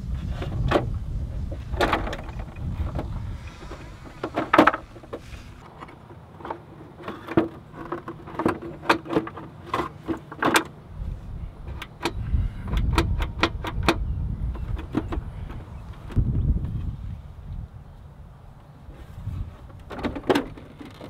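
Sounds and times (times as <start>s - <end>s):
plastic bodywork clicks and knocks: 0.4s - 10.8s, 11.7s - 16.8s, 19.6s - 21.0s.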